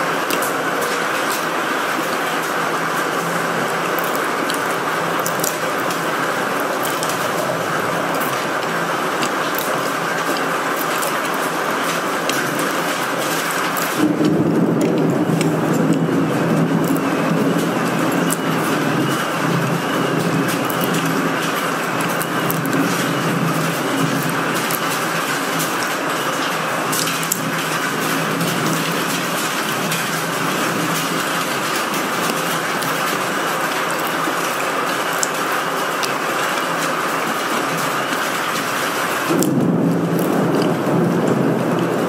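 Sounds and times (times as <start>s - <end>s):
storm wind and rain rushing: 0.0s - 42.0s.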